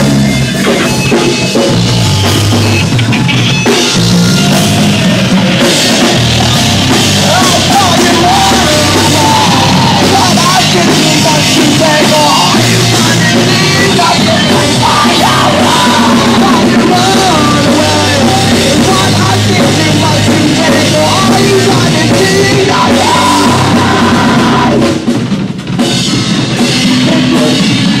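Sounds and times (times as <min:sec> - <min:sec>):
bass guitar: 0:00.0 - 0:28.0
drum kit: 0:00.0 - 0:28.0
electric guitars: 0:00.0 - 0:28.0.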